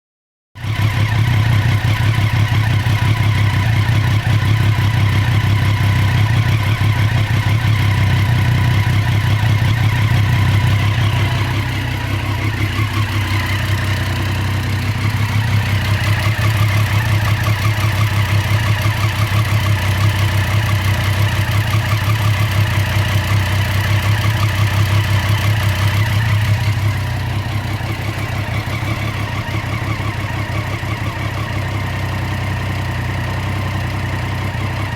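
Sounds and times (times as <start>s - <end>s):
motorcycle engine idling: 0.6s - 34.9s.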